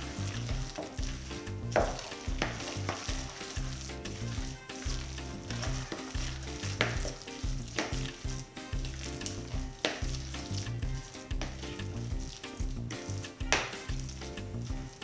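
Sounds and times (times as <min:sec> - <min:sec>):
background music with beat: 0:00.0 - 0:15.0
spoon stirring batter in bowl: 0:00.0 - 0:15.0.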